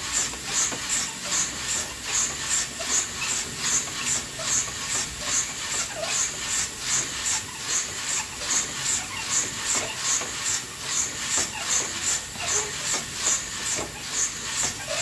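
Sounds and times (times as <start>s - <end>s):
coffee beans tumbling in roaster: 0.0s - 15.0s.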